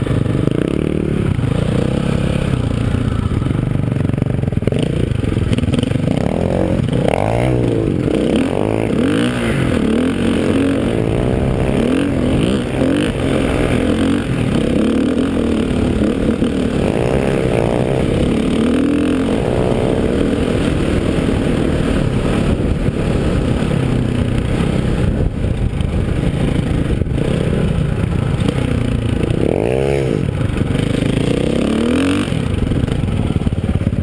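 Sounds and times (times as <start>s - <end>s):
dirt bike engine: 0.0s - 34.0s.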